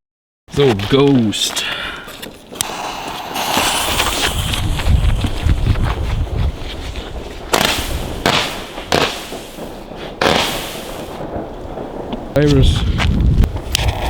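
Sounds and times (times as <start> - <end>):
firework shots banging: 1.0 - 14.0.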